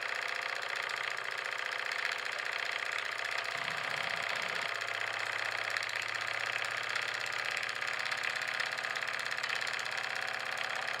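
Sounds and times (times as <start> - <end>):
model steam engine chuffing: 0.0 - 11.0.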